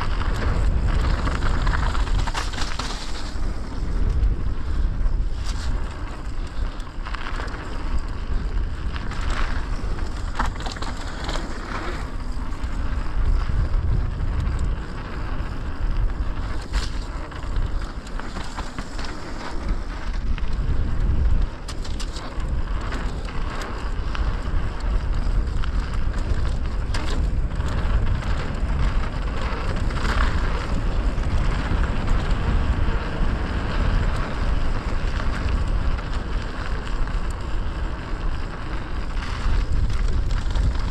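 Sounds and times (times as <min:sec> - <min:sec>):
bike clicks and knocks: 0:00.0 - 0:40.9
bike tyre noise: 0:00.0 - 0:40.9
wind rumble on microphone: 0:00.0 - 0:40.9.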